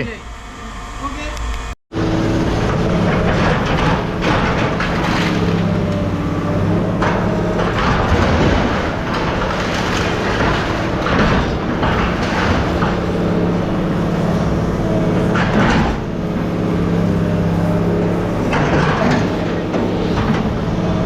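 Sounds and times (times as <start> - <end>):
heavy engine running: 0.0 - 21.0
metal rattling and clanking: 2.5 - 21.0.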